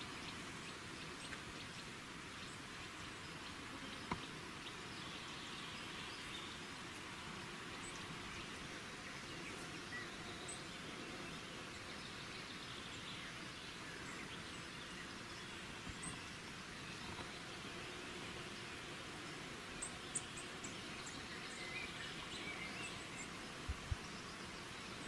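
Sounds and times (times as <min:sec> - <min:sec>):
faint outdoor ambient hiss: 0:00.0 - 0:25.0.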